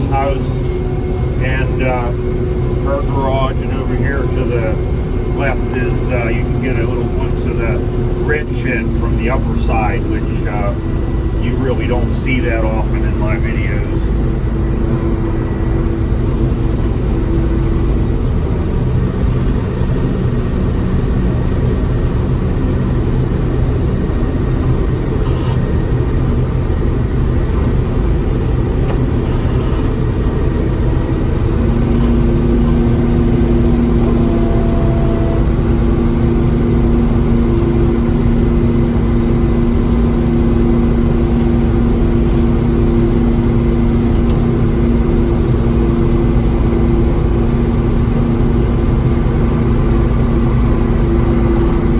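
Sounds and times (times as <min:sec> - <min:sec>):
combine harvester engine drone: 0:00.0 - 0:51.9
low hum: 0:00.0 - 0:51.9.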